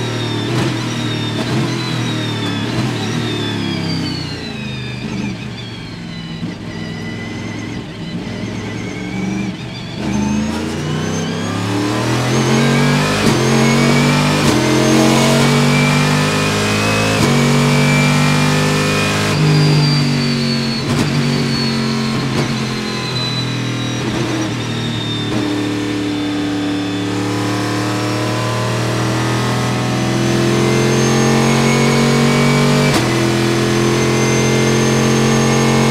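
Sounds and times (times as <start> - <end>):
racing engine accelerating: 0.0 - 35.9.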